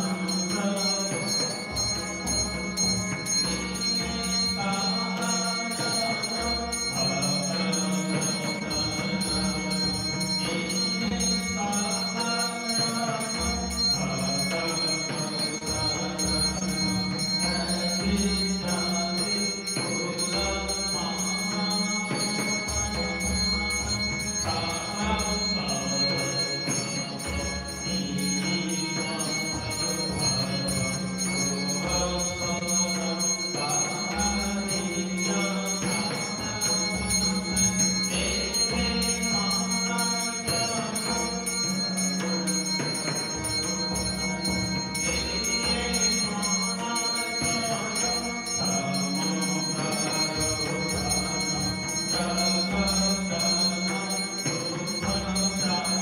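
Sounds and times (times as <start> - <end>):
bells ringing: 0.0 - 56.0
devotional music: 0.0 - 56.0.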